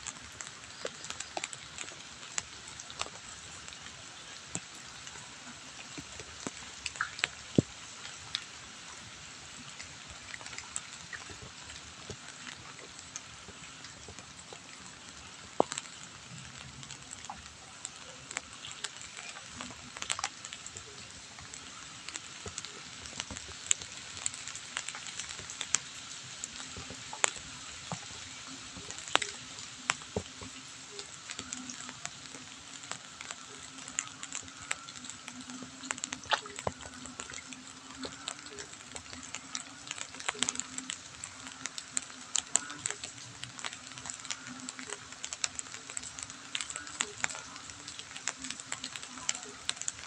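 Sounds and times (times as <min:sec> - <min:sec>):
light rain hissing: 0:00.0 - 0:50.0
raindrops ticking on surfaces: 0:00.0 - 0:50.0.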